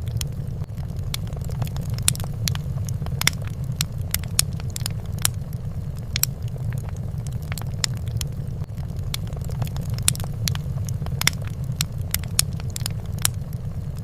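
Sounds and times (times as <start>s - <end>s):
fireplace crackling and popping: 0.0s - 14.0s
low fire rumble: 0.0s - 14.0s.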